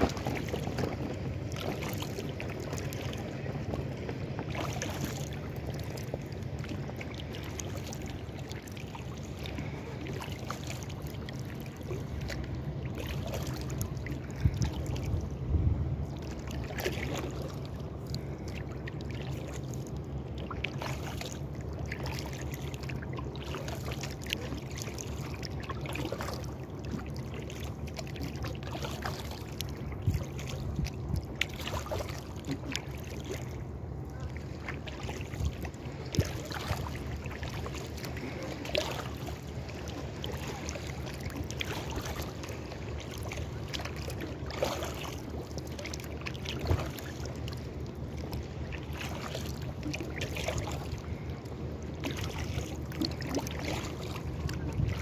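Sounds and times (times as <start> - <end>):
paddle splash: 0.0 - 55.0
steady low rumble: 0.0 - 55.0
water lapping at kayak hull: 0.0 - 55.0.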